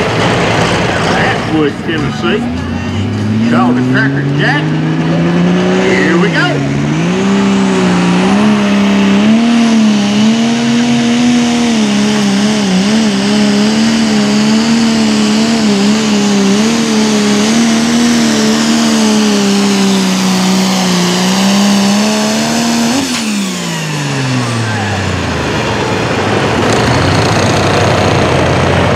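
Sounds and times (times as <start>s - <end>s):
diesel tractor engine roaring: 0.0s - 28.9s.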